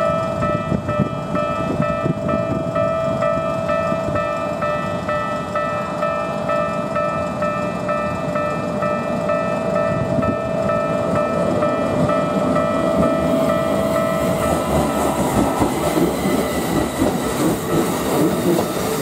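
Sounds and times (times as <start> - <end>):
level crossing bell ringing: 0.0 - 15.3.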